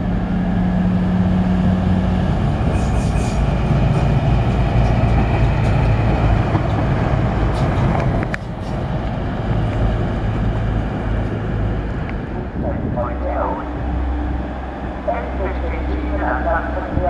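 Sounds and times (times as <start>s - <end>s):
diesel train engine drone: 0.0s - 17.0s
rail noise: 0.0s - 17.0s.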